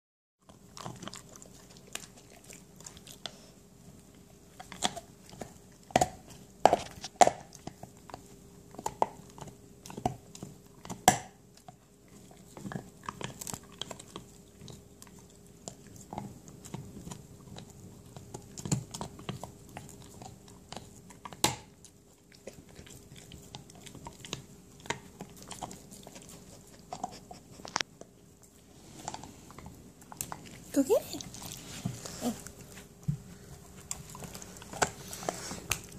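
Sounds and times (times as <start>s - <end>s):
dog gnawing antler: 0.4s - 35.9s.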